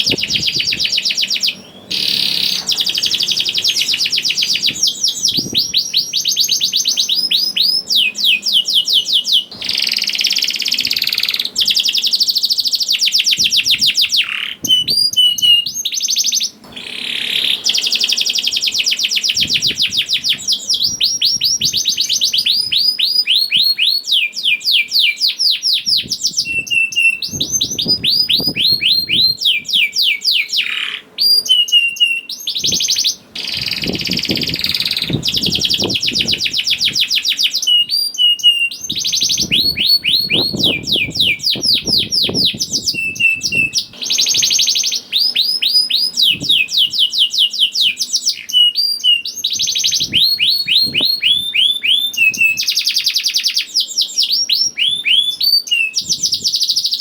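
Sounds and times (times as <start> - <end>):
canary singing rolling trills: 0.0 - 57.0.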